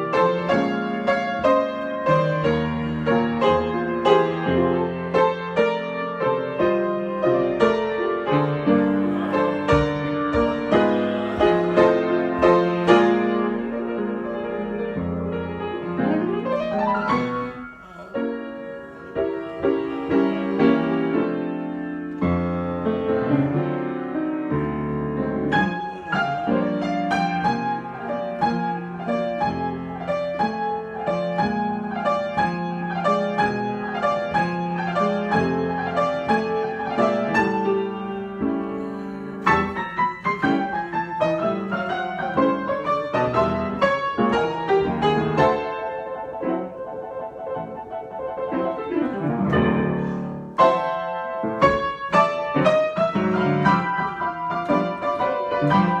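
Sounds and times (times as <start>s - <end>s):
solo piano improvisation: 0.0s - 56.0s.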